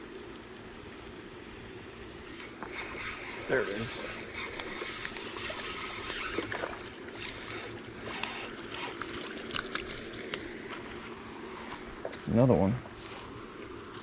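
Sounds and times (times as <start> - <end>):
water splashing and trickling: 2.1 - 14.0.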